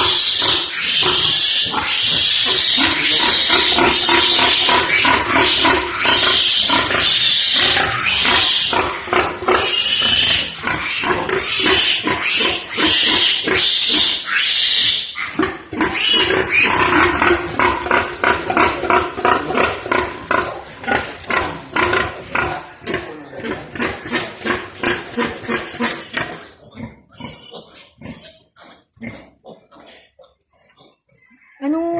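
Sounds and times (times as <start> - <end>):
pigs grunting: 0.0 - 31.4
pigs squealing: 0.0 - 31.6.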